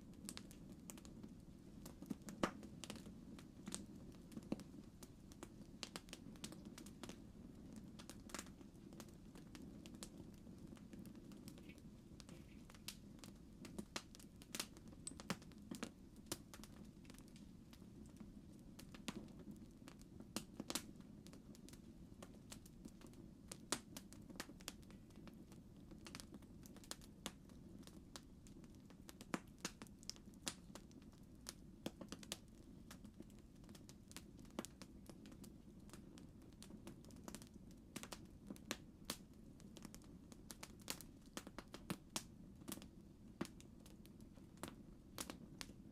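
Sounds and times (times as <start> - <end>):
low rumble of burning: 0.0 - 45.9
campfire pops and snaps: 0.1 - 17.8, 18.8 - 44.0, 44.6 - 45.8.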